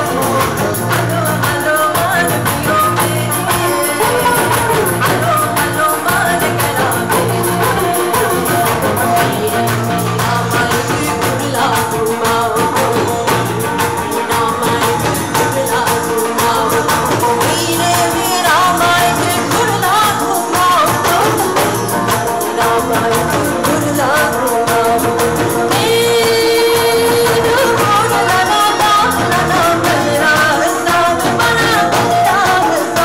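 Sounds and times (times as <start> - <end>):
electric bass: 0.0 - 20.1, 20.9 - 30.4, 31.0 - 32.4
drum-kit beat: 0.0 - 33.0
hand drums: 0.0 - 33.0
keyboard: 0.0 - 33.0
person singing: 0.0 - 33.0
sitar: 0.0 - 33.0.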